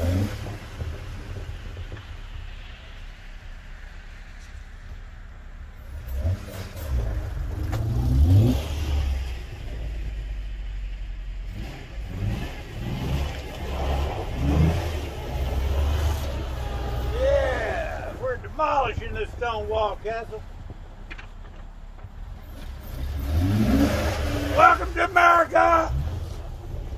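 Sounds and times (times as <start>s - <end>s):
car engine revving: 0.0s - 4.5s, 5.5s - 21.7s, 22.3s - 26.9s.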